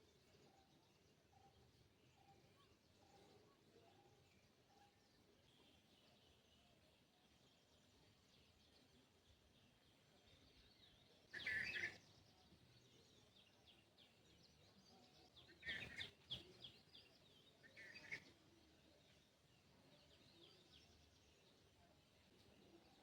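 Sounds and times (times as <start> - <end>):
faint distant bird chirps: 0.0 - 23.0.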